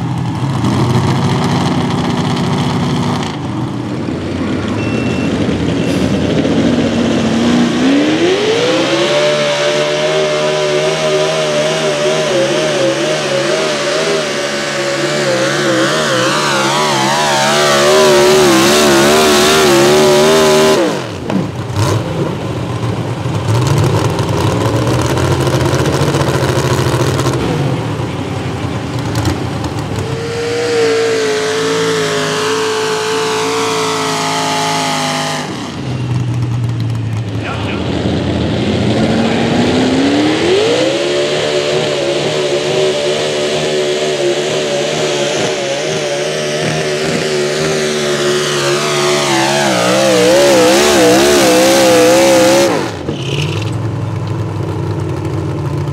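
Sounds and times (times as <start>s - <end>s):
tractor engine running rough: 0.0s - 8.2s, 9.5s - 40.5s, 44.1s - 55.9s
tractor engine revving hard: 0.0s - 53.9s.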